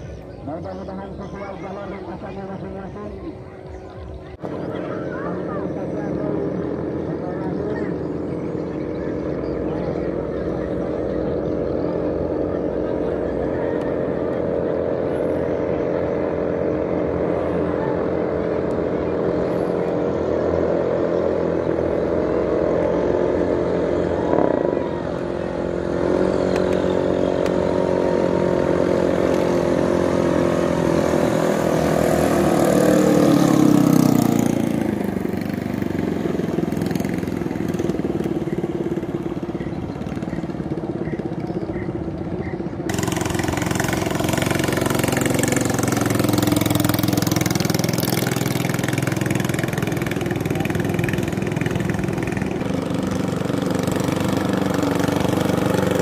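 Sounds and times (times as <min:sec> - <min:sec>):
longtail boat engines racing: 0:00.0 - 0:56.0.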